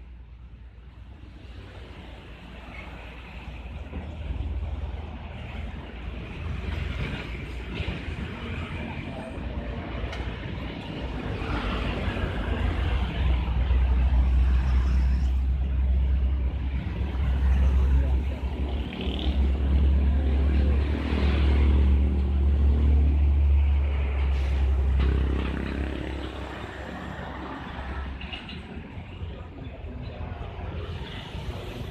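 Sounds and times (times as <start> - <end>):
vehicles passing close by: 0.0 - 31.9.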